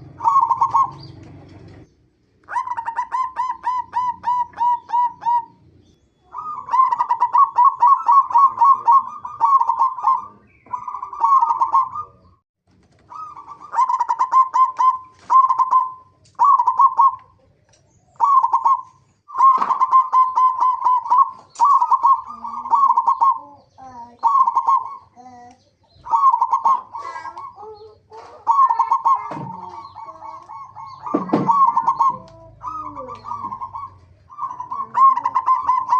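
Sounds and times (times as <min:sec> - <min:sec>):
doves cooing: 0:00.0 - 0:35.9.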